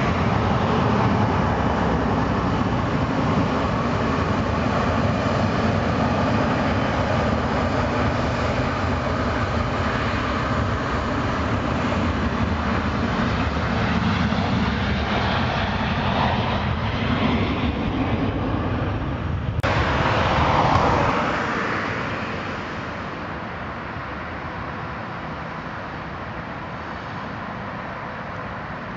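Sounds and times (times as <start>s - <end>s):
jet engines rumbling and whining: 0.0s - 28.9s.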